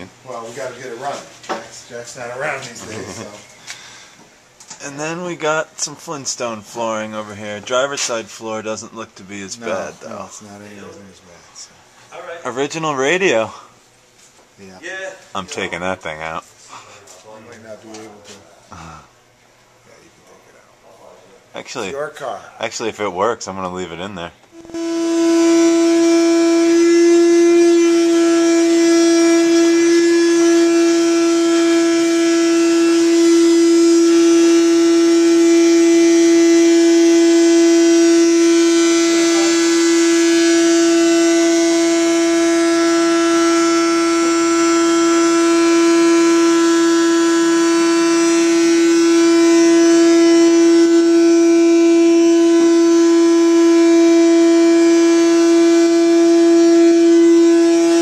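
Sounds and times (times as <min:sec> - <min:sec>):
steady continuous tone: 0:00.0 - 0:58.0.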